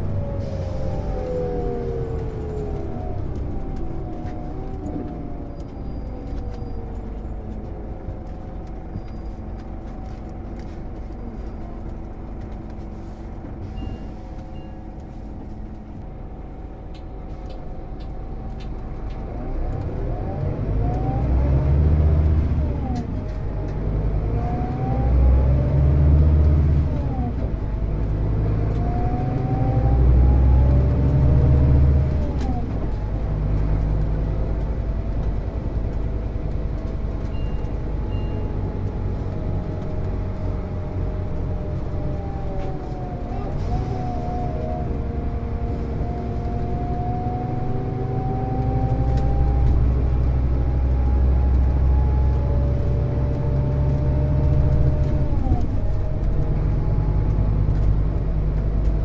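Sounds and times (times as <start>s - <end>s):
bus engine and drivetrain: 0.0s - 59.0s.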